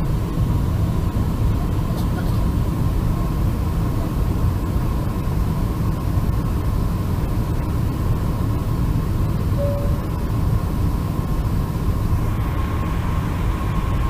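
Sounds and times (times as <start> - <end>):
faint steady hum: 0.0 - 14.0
jet engines rumbling: 0.0 - 14.0.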